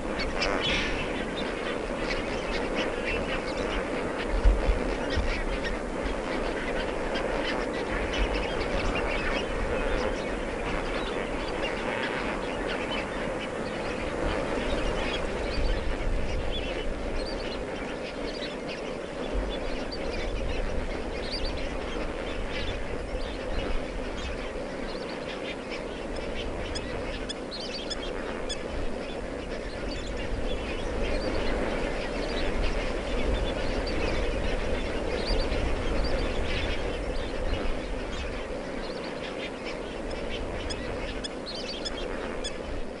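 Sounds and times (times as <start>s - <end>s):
flamingos honking and chattering: 0.0s - 43.0s.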